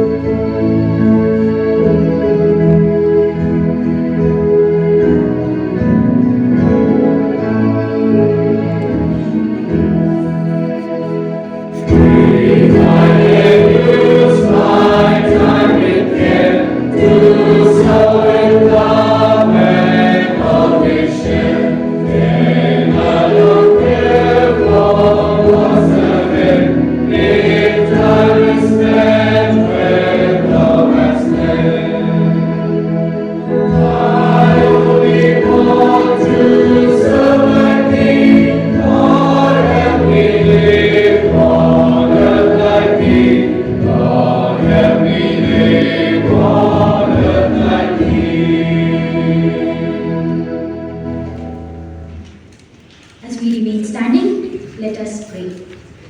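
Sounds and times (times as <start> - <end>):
choir singing a hymn: 0.0 - 52.2.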